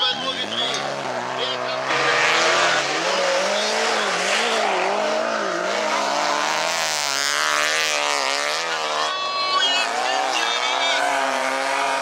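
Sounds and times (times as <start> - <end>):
stock car engines revving: 0.0 - 12.0.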